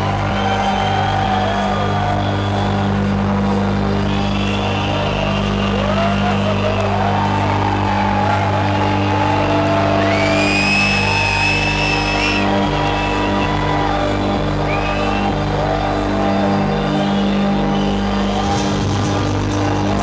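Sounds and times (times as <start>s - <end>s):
electronic dance music: 0.0s - 20.0s.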